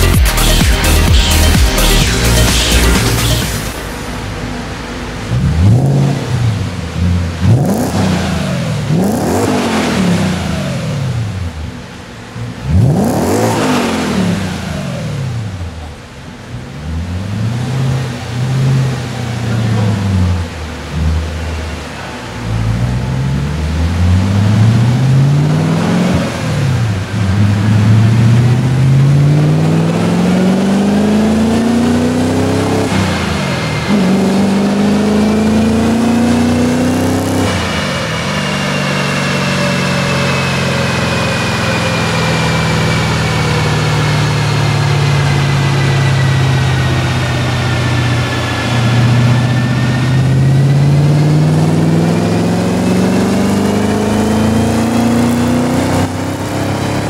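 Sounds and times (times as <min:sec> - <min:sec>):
car engine revving on a dyno: 0:00.0 - 0:57.0.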